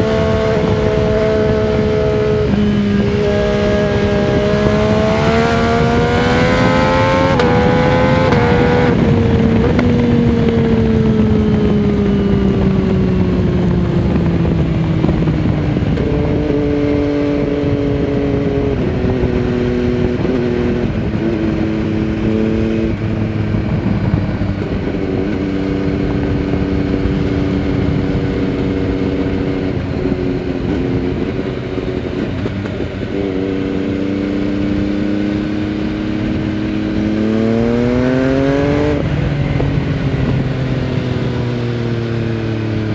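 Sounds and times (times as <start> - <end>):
motorcycle engine: 0.0 - 42.9
wind rush: 0.0 - 42.9.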